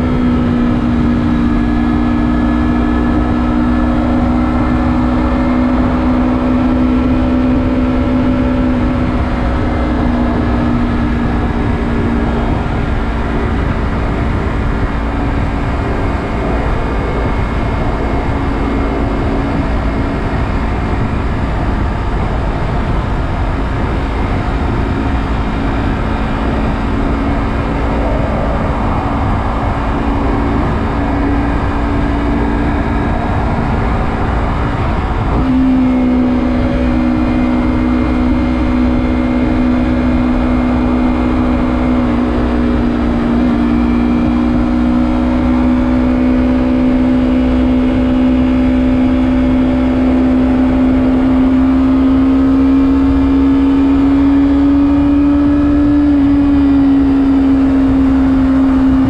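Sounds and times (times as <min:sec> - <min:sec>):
motorcycle engine steady revs: 0:00.0 - 0:59.0
wind and road noise: 0:00.0 - 0:59.0.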